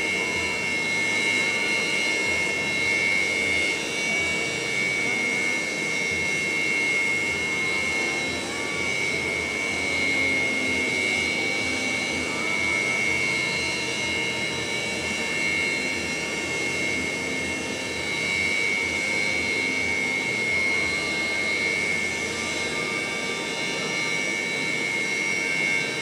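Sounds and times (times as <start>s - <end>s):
high-pitched engine whine: 0.0s - 26.0s
jet engines idling roar: 0.0s - 26.0s.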